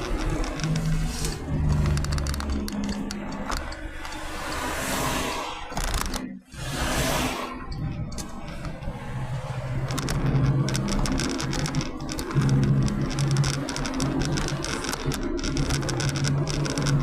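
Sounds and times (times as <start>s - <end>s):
small clicks and rattles: 0.0s - 4.9s, 5.7s - 6.3s, 7.6s - 17.0s
car engine and tyre drone: 0.0s - 17.0s.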